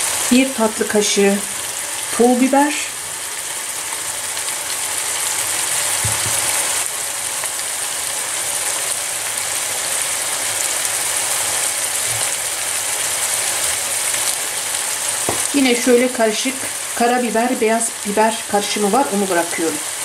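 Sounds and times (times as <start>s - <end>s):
meat and onions sizzling in pan: 0.0s - 20.0s.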